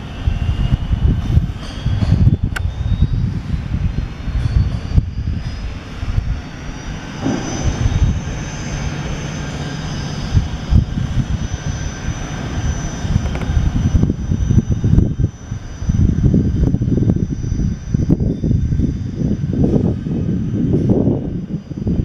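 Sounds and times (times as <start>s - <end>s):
low gusty rumble: 0.0s - 22.0s
turboprop turbine whine: 0.0s - 22.0s.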